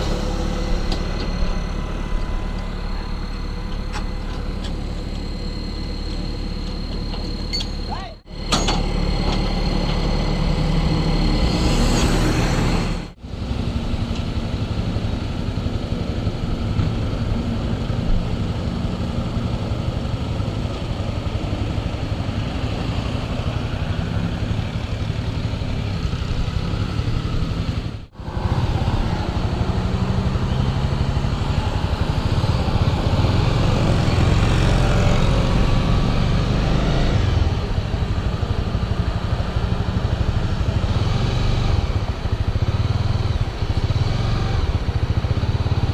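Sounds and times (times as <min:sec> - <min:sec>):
road noise: 0:00.0 - 0:45.9
vehicle engine: 0:00.0 - 0:45.9.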